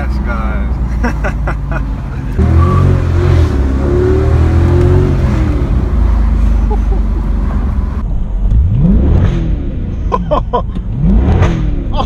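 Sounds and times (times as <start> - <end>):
car engine revving: 0.7 - 12.0.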